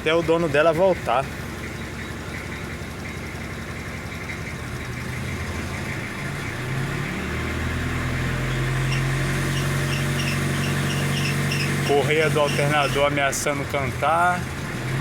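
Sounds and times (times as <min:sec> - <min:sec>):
alternator belt chirps: 0:00.0 - 0:15.0
engine idling: 0:00.0 - 0:15.0.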